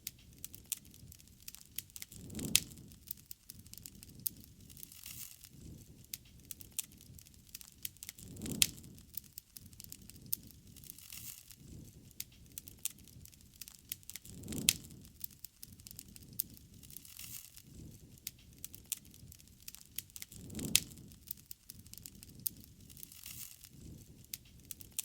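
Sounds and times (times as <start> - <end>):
campfire crackling and popping: 0.0 - 25.0
rush of flame: 0.0 - 25.0.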